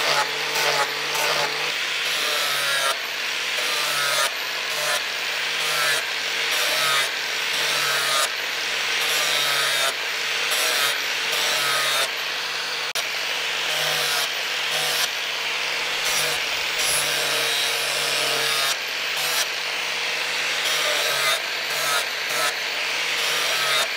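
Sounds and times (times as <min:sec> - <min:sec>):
angle grinder grinding steel: 0:00.0 - 0:23.9.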